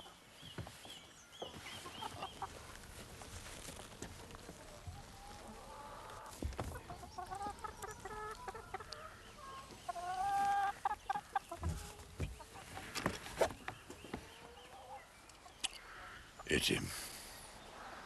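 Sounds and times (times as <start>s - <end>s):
hens clucking: 1.4s - 3.0s, 3.8s - 16.8s.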